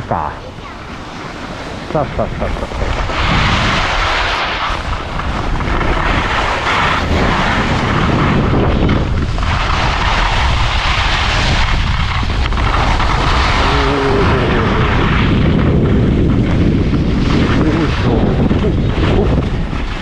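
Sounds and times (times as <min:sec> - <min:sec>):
skis sliding over snow: 0:00.0 - 0:20.0
wind rushing over microphone: 0:00.0 - 0:20.0.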